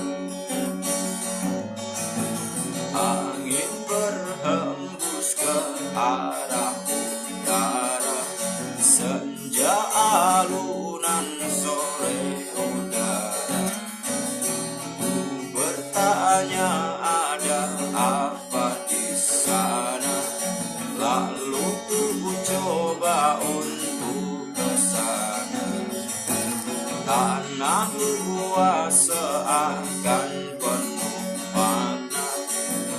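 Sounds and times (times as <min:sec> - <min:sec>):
strummed acoustic guitar song: 0:00.0 - 0:32.9.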